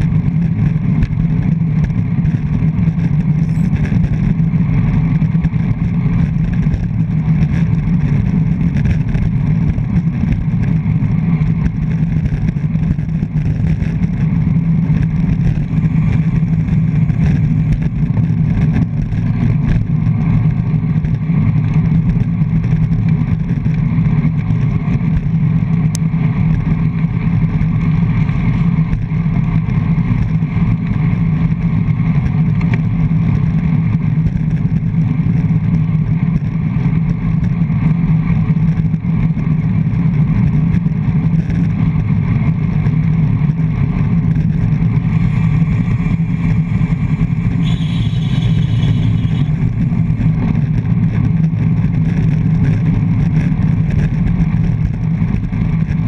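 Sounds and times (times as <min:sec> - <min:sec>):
road noise: 0:00.0 - 0:56.0
wind rumble: 0:00.0 - 0:56.0.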